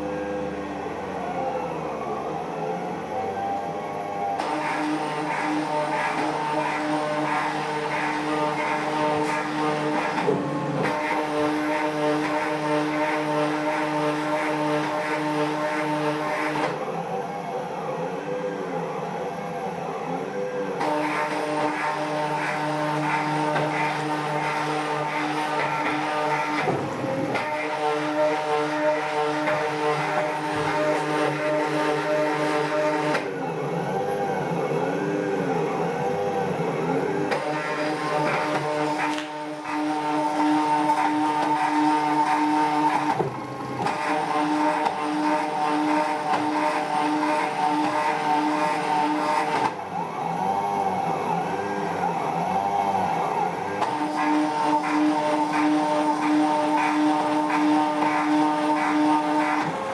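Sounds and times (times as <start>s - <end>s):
machine motors whining: 0.0s - 59.9s.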